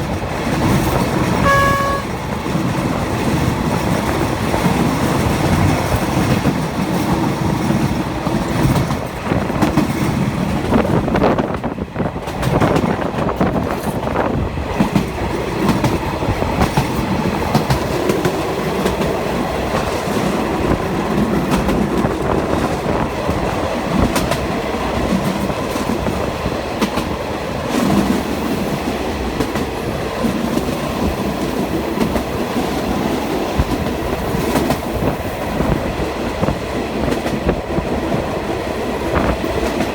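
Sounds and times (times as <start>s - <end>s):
train wheels clattering over rails: 2.2s - 39.9s.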